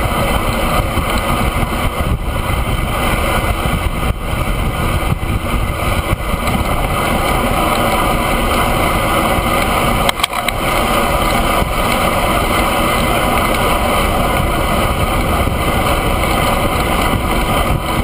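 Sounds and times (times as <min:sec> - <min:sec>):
tyre and road noise: 0:00.0 - 0:18.0
wind rushing over camera: 0:00.0 - 0:18.0.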